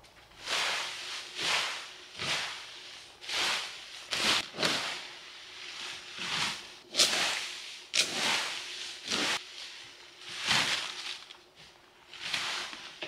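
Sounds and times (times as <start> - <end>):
rake swishing through leaves: 0.3 - 13.0.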